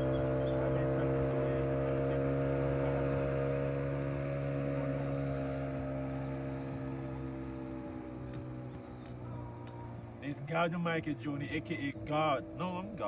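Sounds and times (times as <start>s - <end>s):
engine hum: 0.0s - 13.0s.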